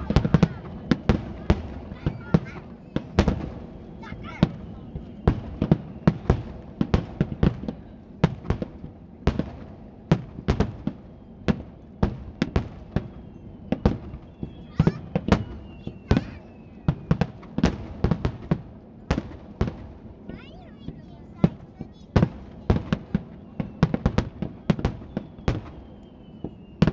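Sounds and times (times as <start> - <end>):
fireworks bursting with echo: 0.0 - 26.9.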